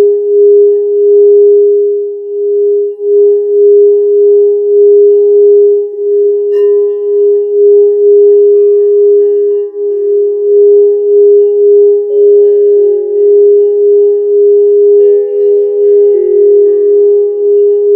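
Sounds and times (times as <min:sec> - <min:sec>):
crystal bowl low ringing tone: 0:00.0 - 0:17.9
higher ringing tones: 0:00.0 - 0:17.9.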